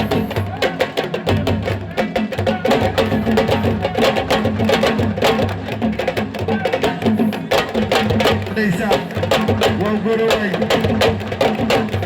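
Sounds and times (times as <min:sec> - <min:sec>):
fast busy drumming: 0:00.0 - 0:12.0.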